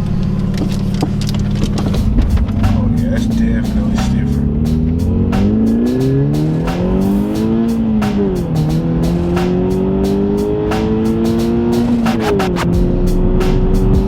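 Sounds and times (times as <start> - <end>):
car engine revving through gears: 0.0 - 14.0.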